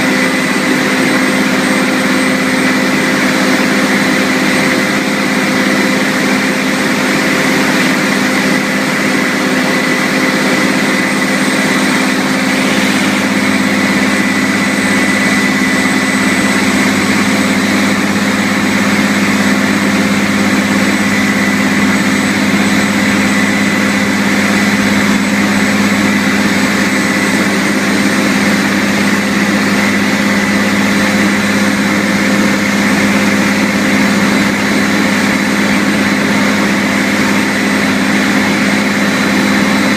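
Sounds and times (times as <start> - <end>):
fire truck engine running: 0.0 - 39.9
high whine: 0.0 - 39.9.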